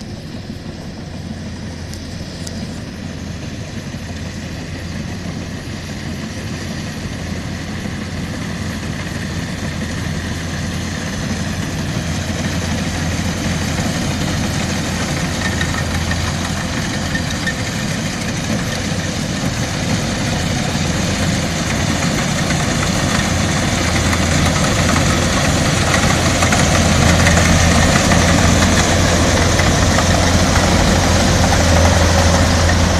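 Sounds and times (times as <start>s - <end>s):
combine harvester engine running: 0.0s - 32.9s
machinery clatter: 0.0s - 32.9s.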